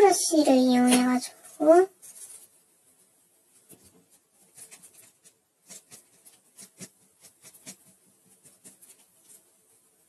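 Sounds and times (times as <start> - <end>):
brush bristles scratching on paper: 1.0 - 10.0.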